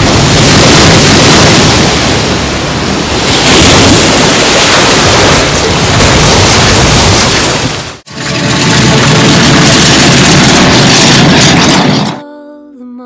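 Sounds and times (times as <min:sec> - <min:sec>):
waves breaking: 0:00.0 - 0:12.1
wind: 0:00.0 - 0:12.2.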